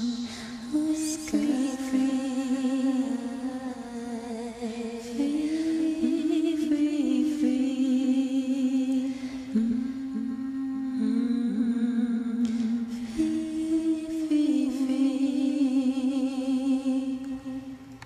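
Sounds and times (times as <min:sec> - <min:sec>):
woman singing wordless held notes: 0:00.0 - 0:18.0.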